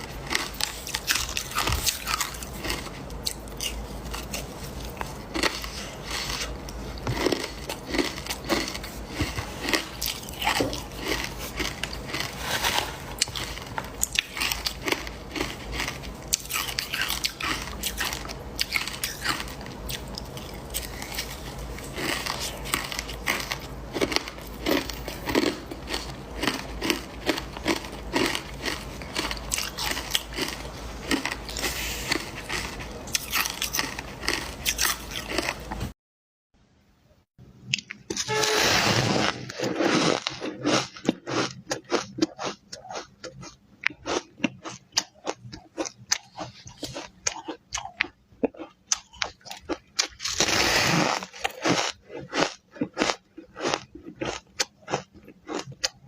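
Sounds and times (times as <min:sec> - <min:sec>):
ice being chewed with crunches: 0:00.0 - 0:35.9, 0:39.0 - 0:56.0.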